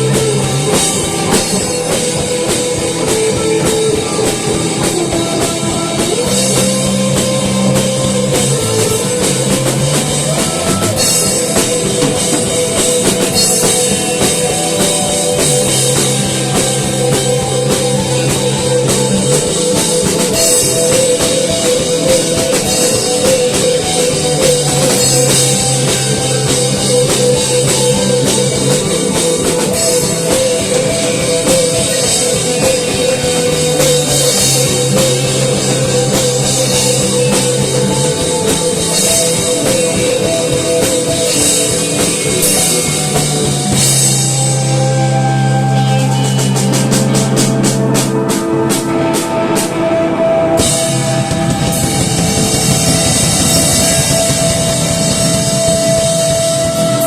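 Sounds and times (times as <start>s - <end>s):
bass line: 0.0s - 57.0s
drum kit beat: 0.0s - 57.0s.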